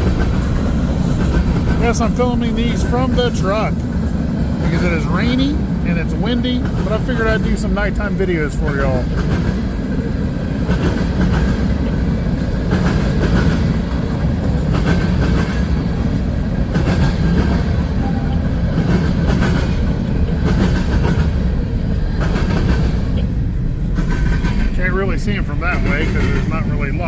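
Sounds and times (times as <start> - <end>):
freight train rumbling past: 0.0 - 27.0
wheels clacking over rail joints: 0.0 - 27.0.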